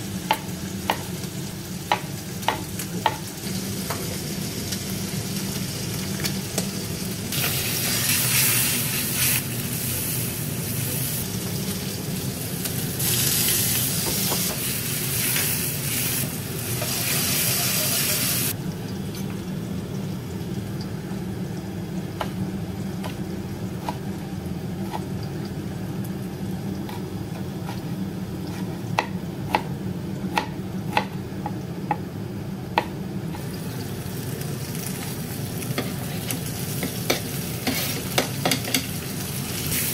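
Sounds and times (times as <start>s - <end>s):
bacon sizzling in a wok: 0.0s - 39.9s.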